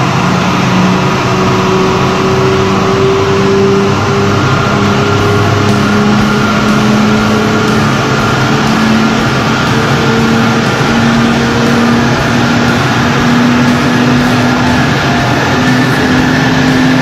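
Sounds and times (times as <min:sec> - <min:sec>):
car engine revving under load: 0:00.0 - 0:17.0.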